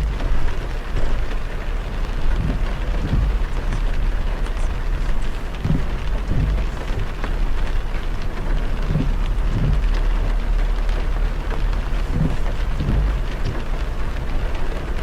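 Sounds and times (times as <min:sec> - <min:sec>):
heavy rain drumming on car: 0:00.0 - 0:15.0
low road rumble: 0:00.0 - 0:15.0
soft low thumps: 0:00.0 - 0:15.0.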